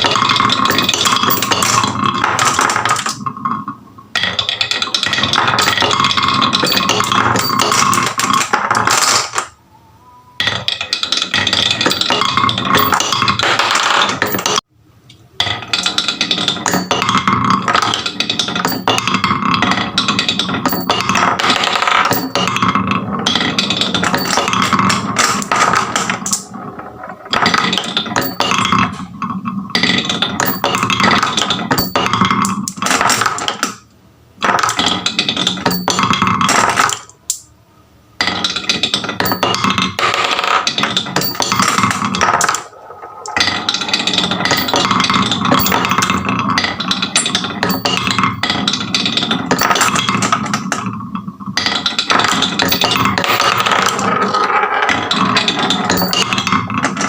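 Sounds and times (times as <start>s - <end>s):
marbles rattling down wooden tracks: 0.0s - 3.5s, 4.2s - 9.4s, 10.5s - 14.7s, 15.5s - 33.8s, 34.4s - 36.9s, 38.2s - 57.0s.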